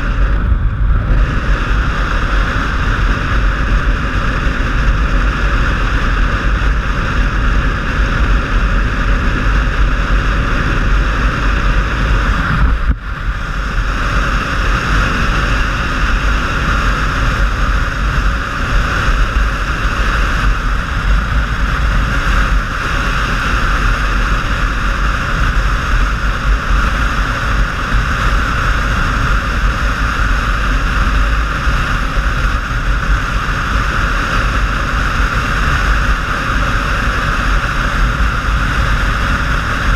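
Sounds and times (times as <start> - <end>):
motorcycle engine running: 0.0 - 39.9
motorcycle road noise: 0.0 - 39.9
wind buffeting on microphone: 0.0 - 39.9.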